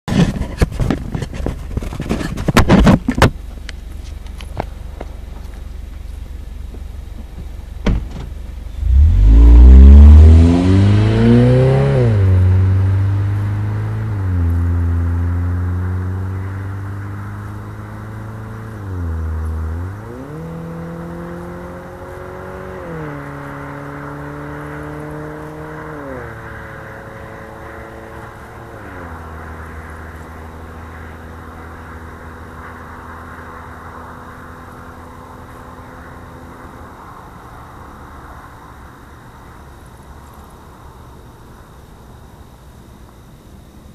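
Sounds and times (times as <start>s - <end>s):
car engine accelerating: 3.2s - 38.4s.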